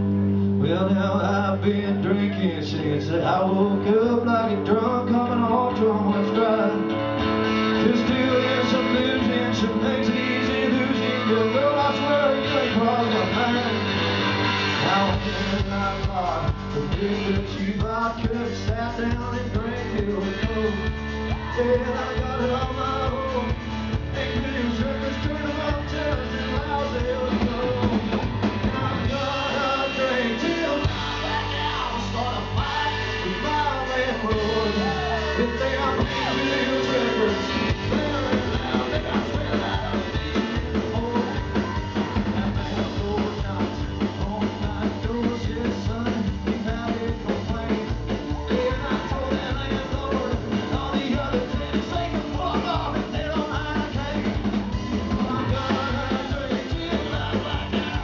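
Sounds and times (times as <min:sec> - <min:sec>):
electric bass: 0:00.0 - 0:58.0
electric guitar: 0:00.0 - 0:58.0
drum kit beat: 0:07.4 - 0:58.0.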